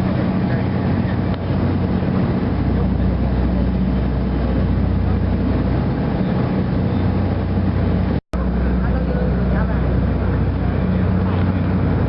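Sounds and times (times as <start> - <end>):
boat engine droning: 0.0 - 12.0
water noise: 0.0 - 12.0
wind: 0.0 - 12.0.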